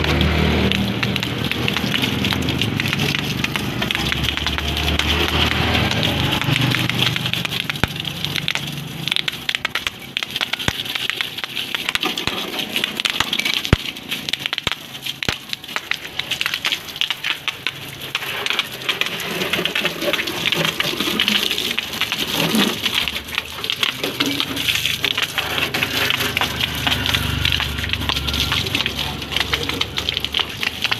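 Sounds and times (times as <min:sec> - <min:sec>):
hose water spraying on metal: 0:00.0 - 0:30.9.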